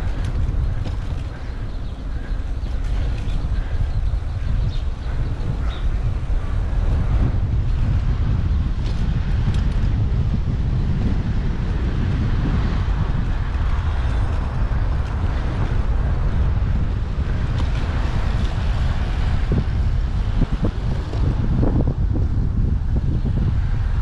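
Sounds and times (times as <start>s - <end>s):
road and traffic noise: 0.0s - 24.0s
wind rumble on microphone: 0.0s - 24.0s.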